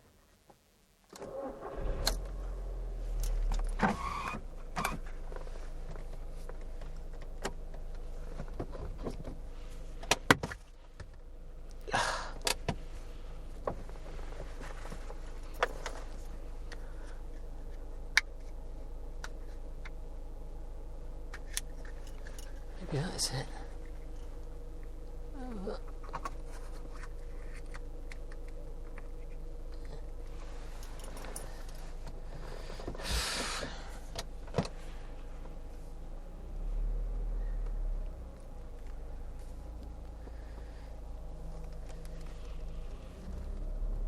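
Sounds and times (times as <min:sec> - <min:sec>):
car engine starting and idling: 0:00.0 - 0:44.0.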